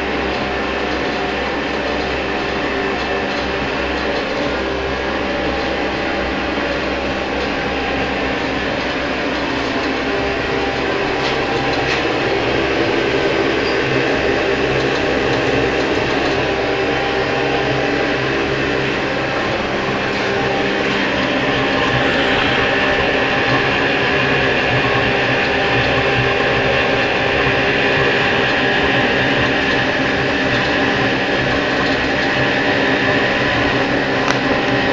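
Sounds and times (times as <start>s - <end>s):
low mechanical hum: 0.0s - 34.9s
oil heater rushing: 0.0s - 34.9s.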